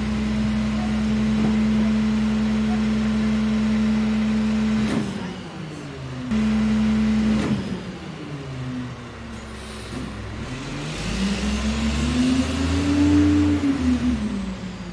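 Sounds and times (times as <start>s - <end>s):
garbage truck diesel engine revving: 0.0s - 14.9s.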